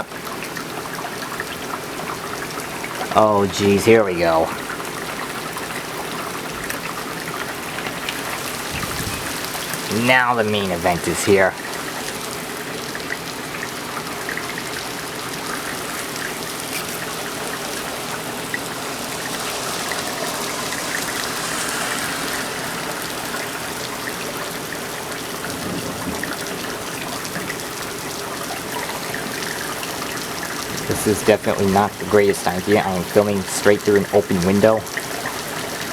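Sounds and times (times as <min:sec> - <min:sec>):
torrential rain pouring: 0:00.0 - 0:35.9.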